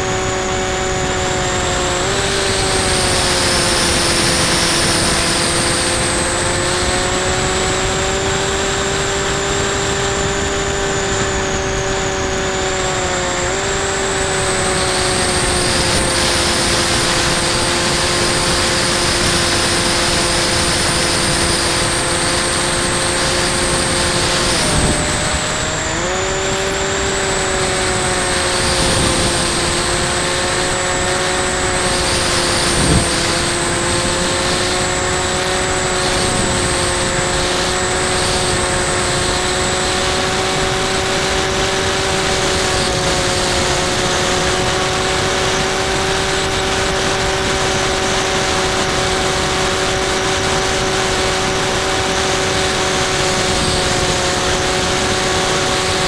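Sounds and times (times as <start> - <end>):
electric motor and propeller whining: 0.0 - 56.0
wind noise: 0.0 - 56.0.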